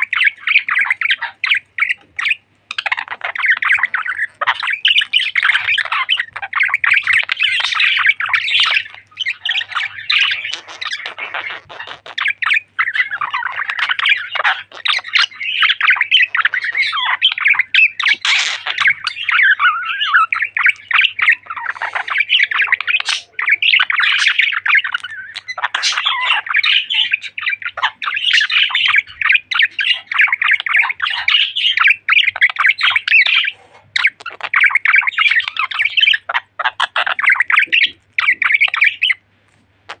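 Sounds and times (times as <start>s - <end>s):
budgerigars chattering and warbling: 0.0s - 39.3s.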